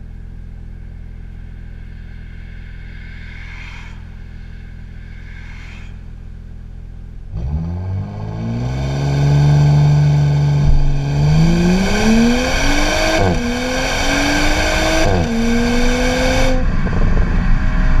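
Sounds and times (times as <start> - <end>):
car exhaust accelerating: 0.0 - 18.0
wind and road noise: 1.4 - 18.0.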